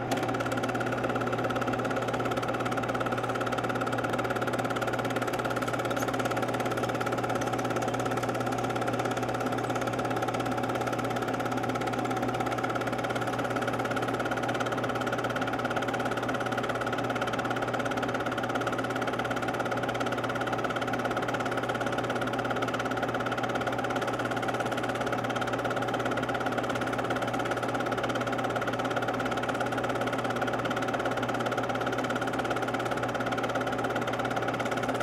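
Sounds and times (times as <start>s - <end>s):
film projector whirring: 0.0s - 35.0s.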